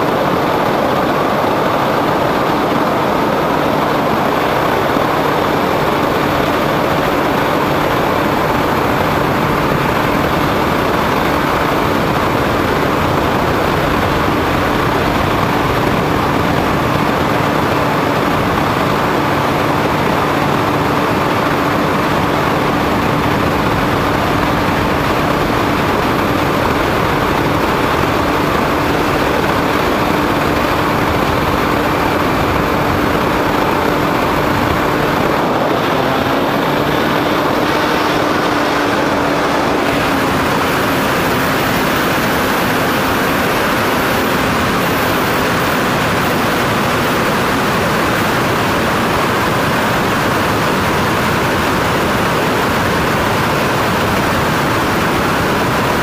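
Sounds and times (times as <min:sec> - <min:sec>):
model airplane motor drone: 0:00.0 - 0:56.0
wind rush on microphone: 0:00.0 - 0:56.0.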